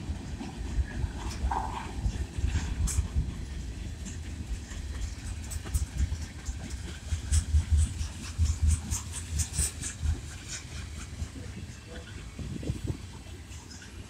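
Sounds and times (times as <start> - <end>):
clacks over rail joints: 0.0 - 14.0
train wheels rumbling on rails: 0.0 - 14.0.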